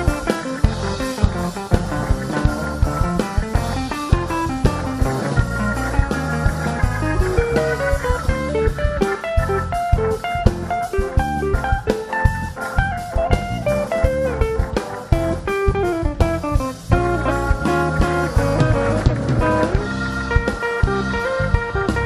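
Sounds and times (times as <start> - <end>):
bass: 0.0 - 22.0
drum kit: 0.0 - 22.0
guitar picking melody: 0.0 - 22.0.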